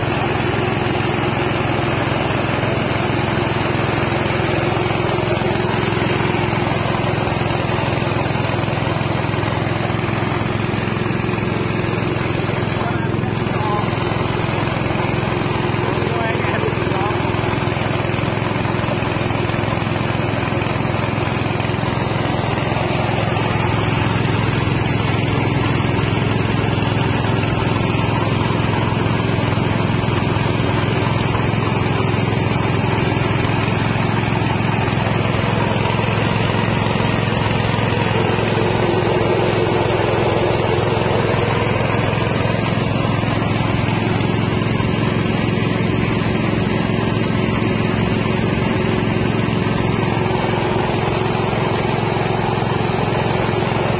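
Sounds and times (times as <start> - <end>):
rice milling machine running: 0.0 - 53.9.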